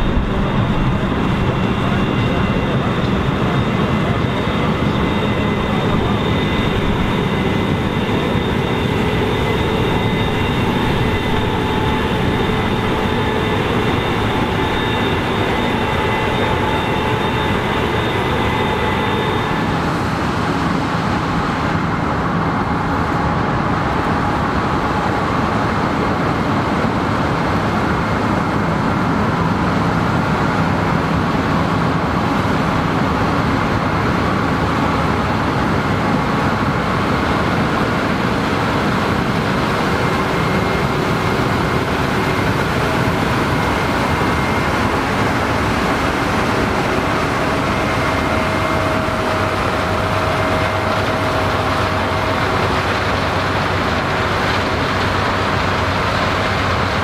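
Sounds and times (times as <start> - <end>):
combine harvester drone with whines: 0.0 - 57.0
combine harvester rough rumble: 0.0 - 57.0.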